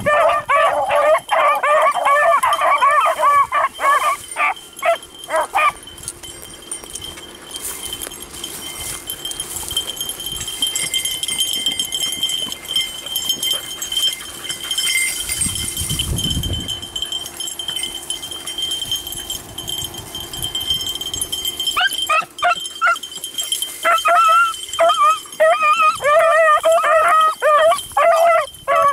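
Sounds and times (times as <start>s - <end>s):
hounds baying: 0.0s - 15.8s, 16.7s - 28.9s.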